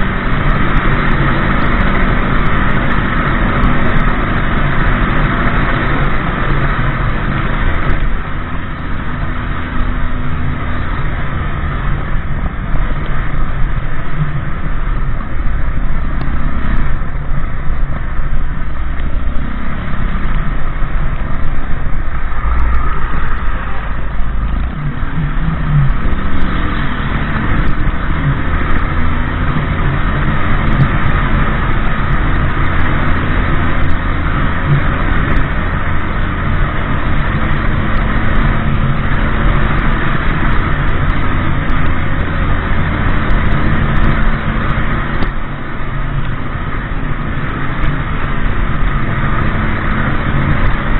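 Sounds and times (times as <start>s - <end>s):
motorbike engine drone: 0.0s - 50.9s
road noise: 0.0s - 50.9s.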